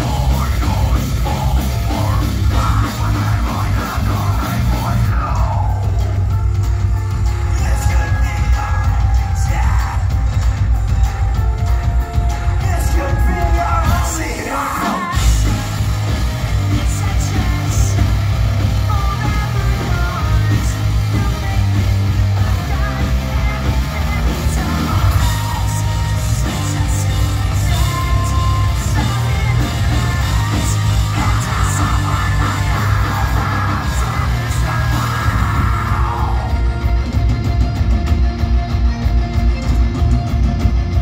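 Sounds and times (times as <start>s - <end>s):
yelled and sung vocals: 0.0s - 6.5s, 7.2s - 11.0s, 12.0s - 37.2s
live rock band playing: 0.0s - 41.0s.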